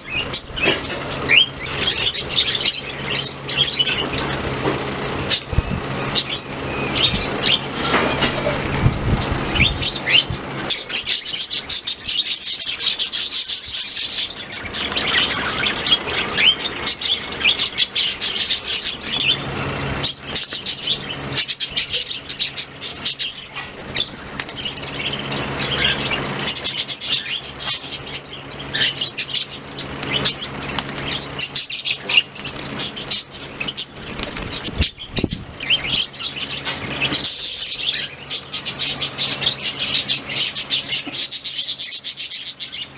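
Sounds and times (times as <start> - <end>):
budgerigars chirping: 0.0 - 42.9.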